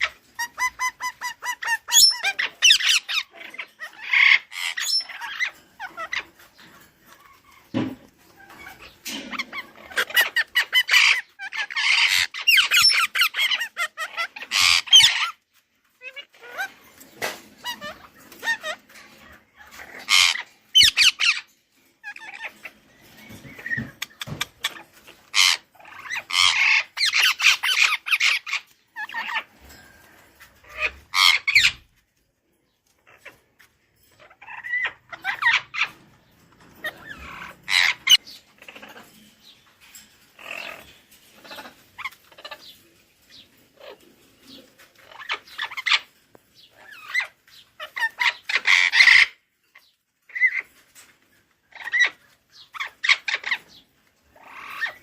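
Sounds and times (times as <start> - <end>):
budgerigars chirping and squawking: 0.0 - 32.0, 32.8 - 55.0.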